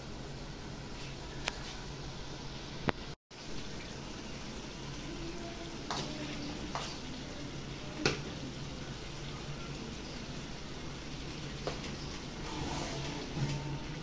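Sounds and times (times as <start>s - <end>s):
stew sizzling in a pot: 0.0s - 14.0s.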